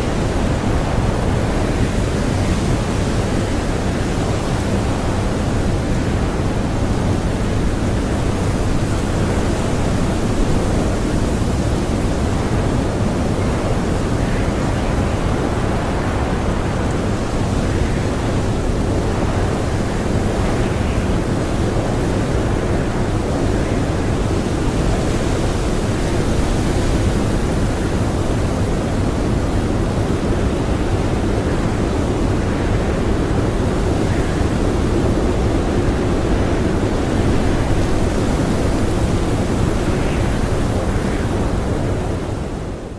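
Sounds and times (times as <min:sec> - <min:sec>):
blizzard wind blowing hard: 0:00.0 - 0:42.9.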